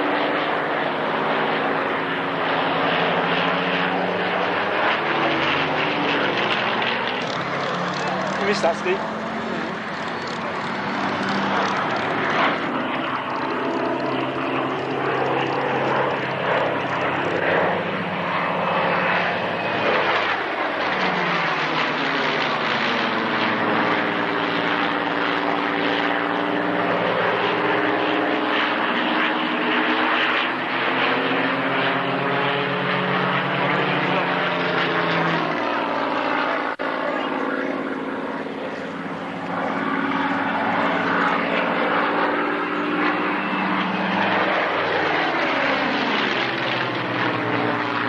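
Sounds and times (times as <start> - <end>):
propeller plane engine droning: 0.0 - 48.0.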